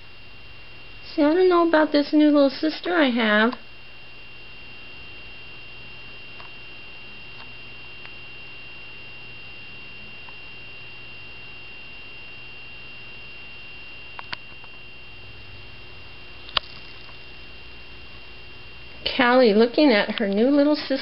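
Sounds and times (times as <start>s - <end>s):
faint high-pitched whine: 0.0s - 21.0s.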